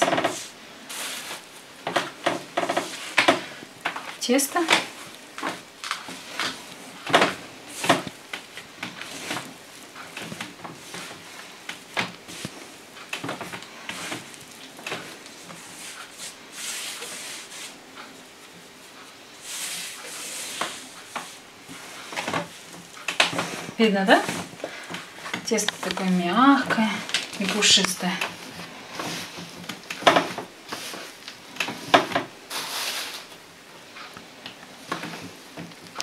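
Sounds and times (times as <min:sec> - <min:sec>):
hands kneading dough: 0:00.0 - 0:36.0.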